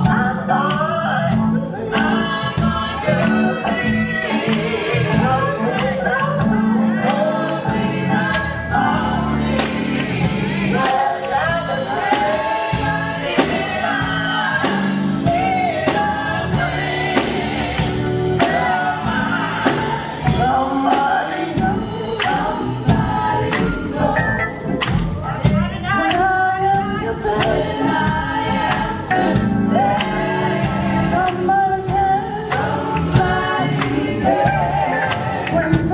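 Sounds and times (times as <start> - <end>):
gospel quartet singing in harmony: 0.0 - 35.9
instrumental backing: 0.0 - 35.9
steady drum beat: 0.0 - 35.9.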